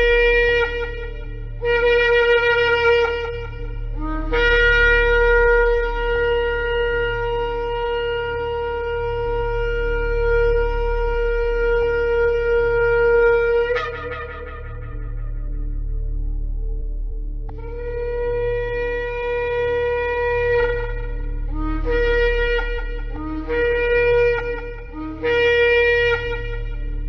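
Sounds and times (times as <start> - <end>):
shofar blasts: 0.0 - 16.3, 17.5 - 27.0
low steady hum: 0.0 - 27.0.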